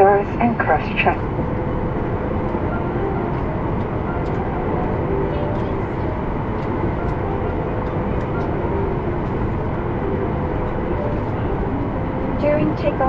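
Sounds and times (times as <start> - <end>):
airliner cabin rumble and hiss: 0.0 - 13.0.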